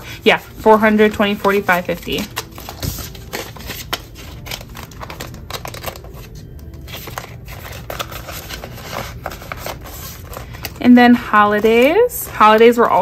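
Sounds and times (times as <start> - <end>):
paper and plastic rustling: 0.0 - 13.0.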